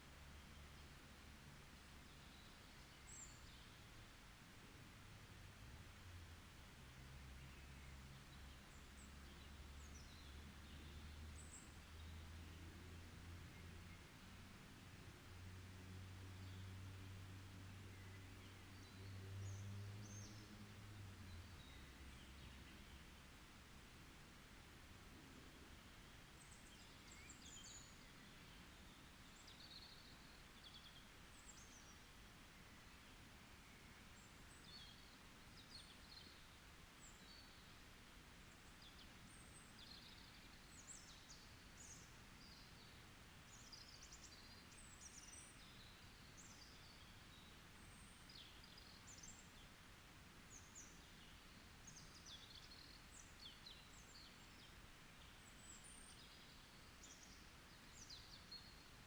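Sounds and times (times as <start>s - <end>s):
low background hiss: 0.0s - 59.0s.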